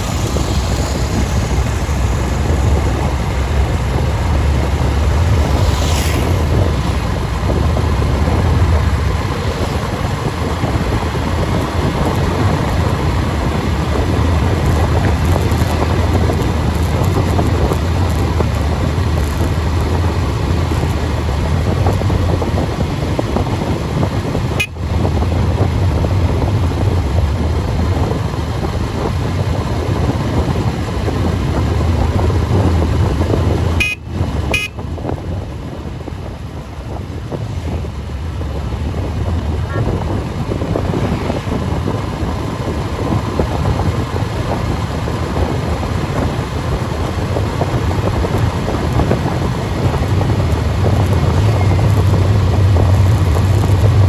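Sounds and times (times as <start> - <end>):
road noise at speed: 0.0 - 54.0
wind rush: 0.0 - 54.0.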